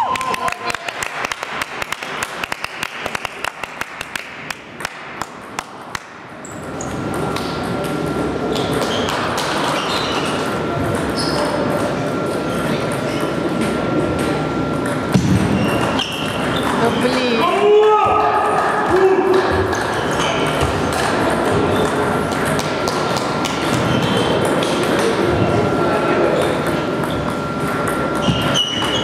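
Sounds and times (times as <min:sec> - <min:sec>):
steady hall noise: 0:00.0 - 0:29.0.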